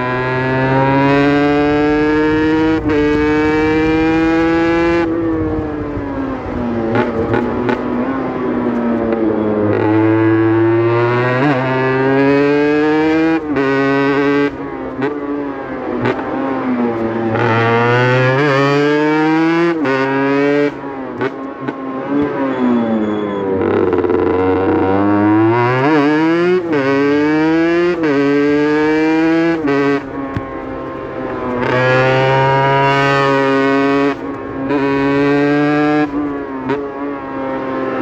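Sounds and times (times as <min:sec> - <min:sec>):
two-stroke motorcycle accelerating: 0:00.0 - 0:38.0.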